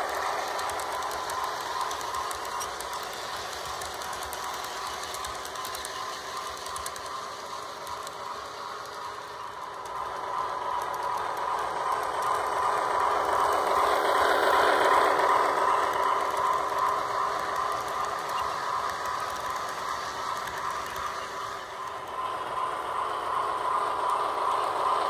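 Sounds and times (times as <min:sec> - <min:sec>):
model train rolling on track: 0:00.0 - 0:25.0.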